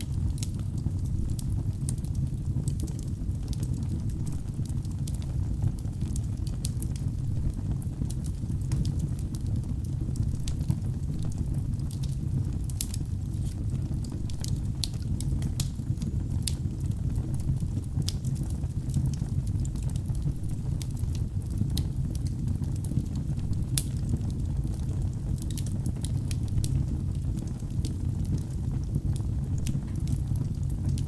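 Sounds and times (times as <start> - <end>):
low rumble of fire: 0.0 - 31.0
wood crackling and popping: 0.0 - 31.0.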